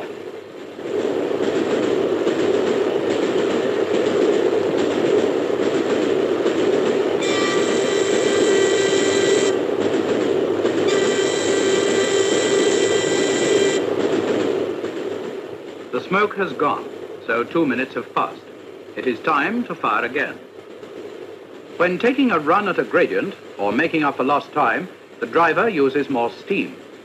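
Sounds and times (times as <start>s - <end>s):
steam locomotive rushing: 0.0s - 27.0s.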